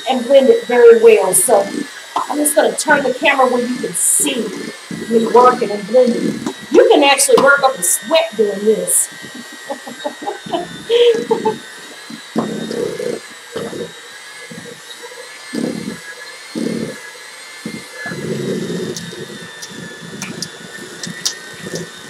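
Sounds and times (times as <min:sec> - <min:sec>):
electric hand mixer whining: 0:00.0 - 0:22.0.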